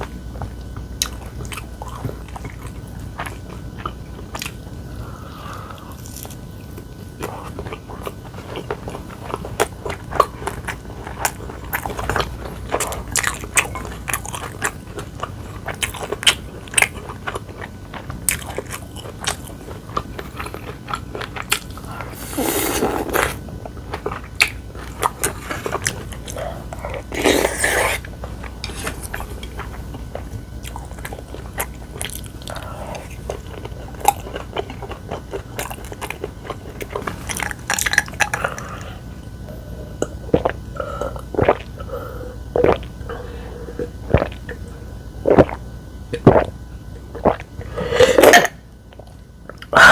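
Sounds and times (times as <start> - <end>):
crunchy biting and chewing: 5.8 - 49.9.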